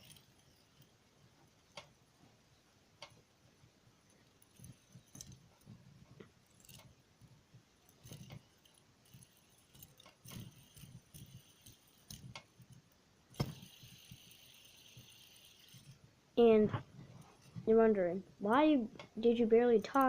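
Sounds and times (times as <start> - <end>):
fidget spinner clicking and rattling: 0.0 - 20.0.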